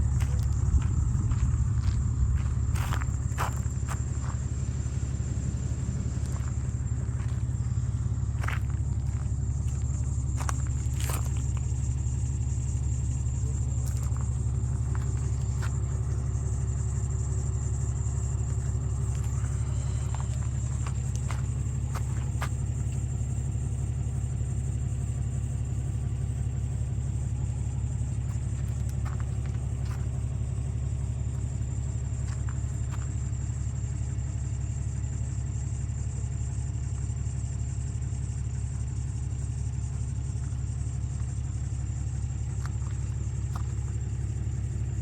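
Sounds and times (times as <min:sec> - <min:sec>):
wood chipper engine drone: 0:00.0 - 0:45.0.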